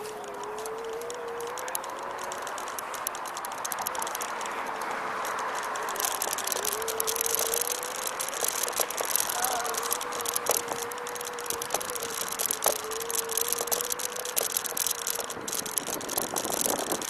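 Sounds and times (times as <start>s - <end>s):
electric scooter motor whine: 0.0s - 17.0s
road and wind hiss: 0.0s - 17.0s
scooter rattling clicks: 0.0s - 17.0s.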